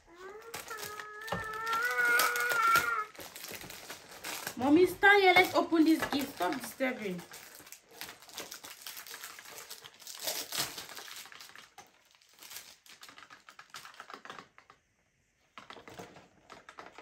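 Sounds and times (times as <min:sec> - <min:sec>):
wrapping paper rustling and crackling: 0:00.0 - 0:17.0.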